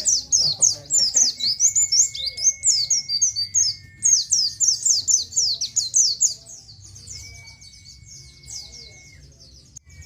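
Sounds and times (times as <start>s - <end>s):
bird singing fast chirps: 0.0s - 10.0s.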